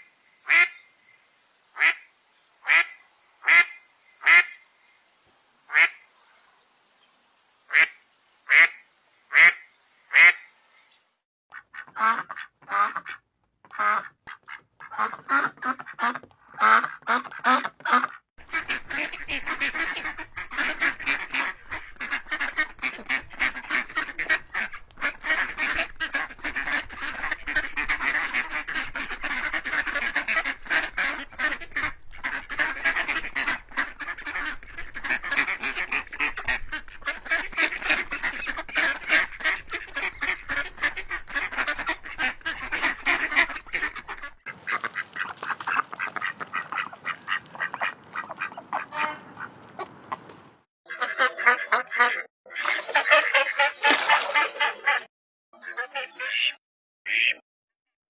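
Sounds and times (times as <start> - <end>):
ducks quacking: 0.0 - 0.8, 1.8 - 4.6, 5.7 - 6.1, 7.7 - 10.5, 11.5 - 57.4.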